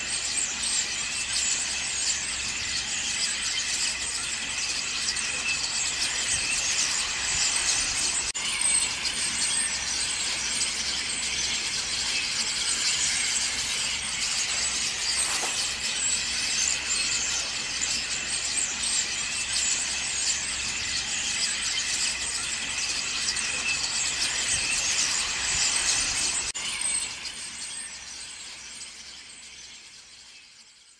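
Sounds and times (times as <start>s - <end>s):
starlings chattering: 0.0s - 29.2s.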